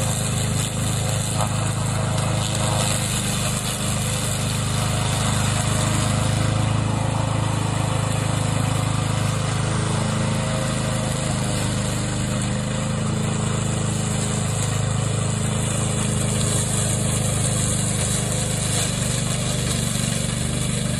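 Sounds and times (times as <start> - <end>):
cutting through tall grass: 0.0 - 20.9
mower engine running under load: 0.0 - 20.9.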